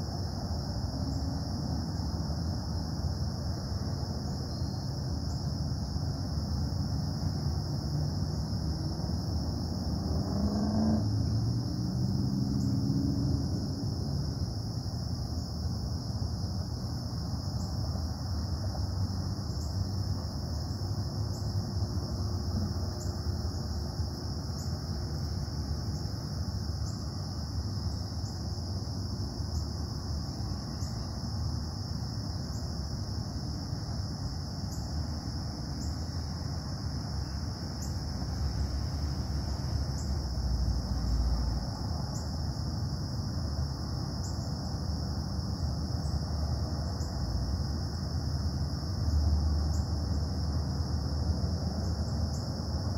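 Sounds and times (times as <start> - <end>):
high insect trill: 0.0 - 52.9.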